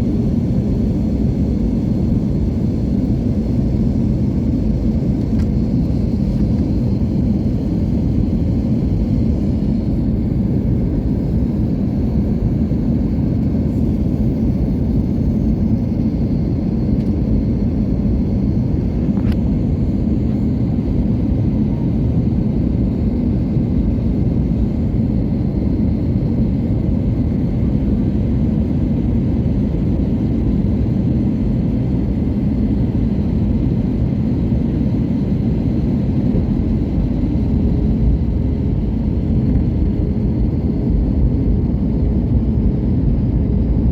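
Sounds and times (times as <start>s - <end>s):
airliner engines rumbling: 0.0s - 43.9s.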